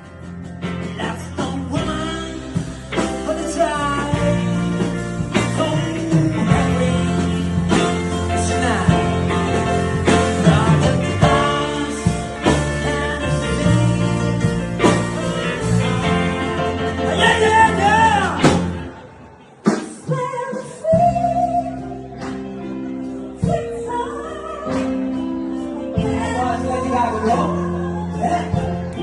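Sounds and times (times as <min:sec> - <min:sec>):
rock band playing slow song: 0:00.0 - 0:29.0
person singing: 0:00.1 - 0:18.7, 0:19.6 - 0:29.0.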